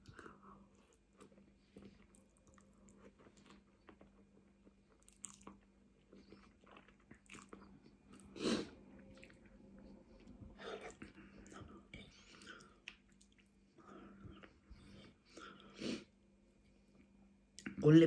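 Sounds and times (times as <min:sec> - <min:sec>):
chewing and slurping noodles: 0:00.0 - 0:14.6.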